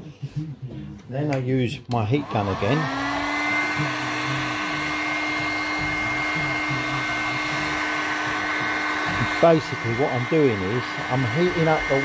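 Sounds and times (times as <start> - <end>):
heat gun fan whine: 2.1 - 12.0.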